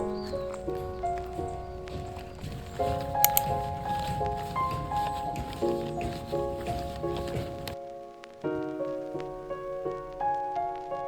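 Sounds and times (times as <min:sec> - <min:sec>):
light crackly noise: 0:00.0 - 0:11.0
soft instrumental music: 0:00.0 - 0:11.0.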